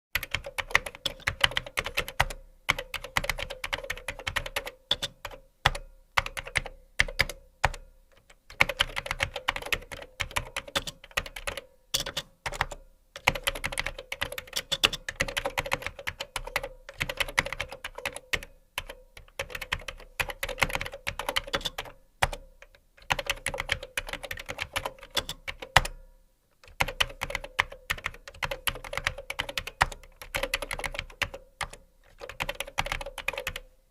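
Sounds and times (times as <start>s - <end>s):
fast typing on keyboard: 0.2s - 25.9s, 26.6s - 33.7s.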